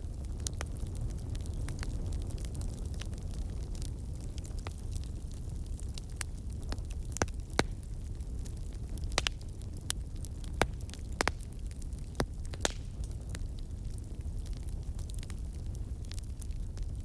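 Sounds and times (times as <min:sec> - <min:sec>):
low rumble of fire: 0:00.0 - 0:17.0
campfire pops and snaps: 0:00.1 - 0:17.0.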